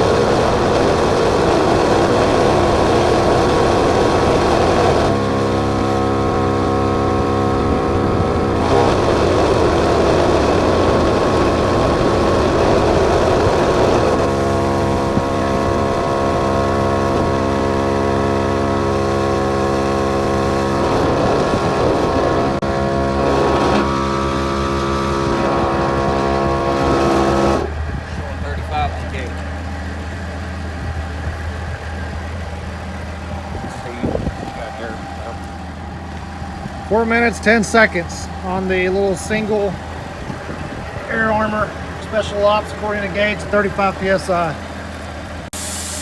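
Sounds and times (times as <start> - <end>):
air compressor running: 0.0 - 46.0.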